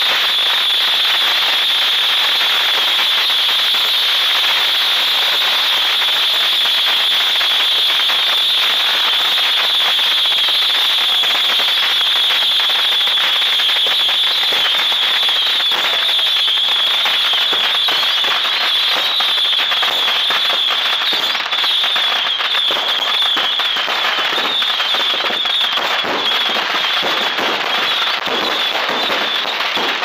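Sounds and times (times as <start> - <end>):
fireworks crackling pops: 0.0 - 30.0
fireworks high whine: 0.0 - 30.0.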